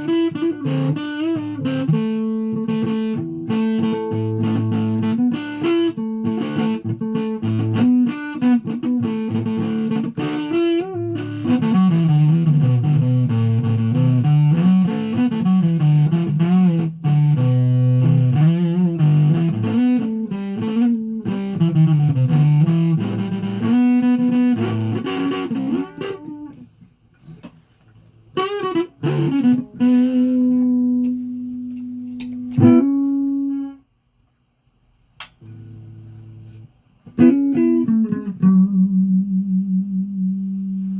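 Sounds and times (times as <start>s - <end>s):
guitar melody with sliding notes: 0.0s - 27.5s, 28.3s - 33.8s, 35.4s - 40.9s.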